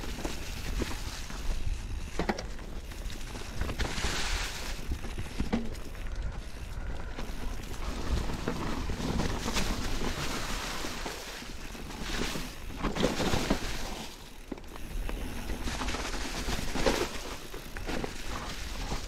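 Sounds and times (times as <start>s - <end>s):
bike tyres crunching over leaves: 0.0s - 19.0s.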